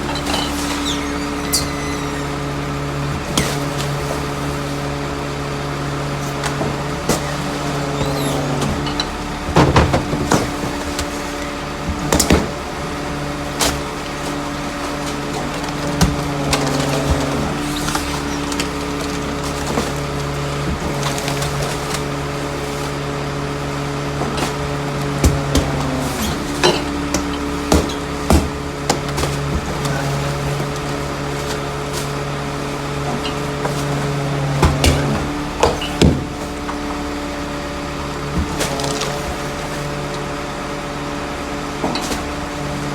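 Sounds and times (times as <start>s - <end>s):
clattering bangs and knocks: 0.0s - 40.3s
garbage truck engine running: 0.0s - 42.9s.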